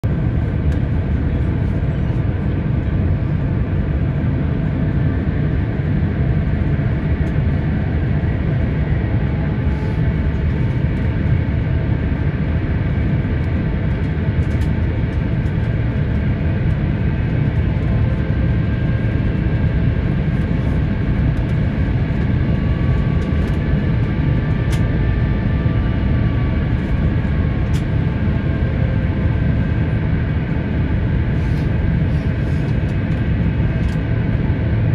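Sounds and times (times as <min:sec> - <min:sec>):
airliner cabin engine rumble: 0:00.0 - 0:34.9.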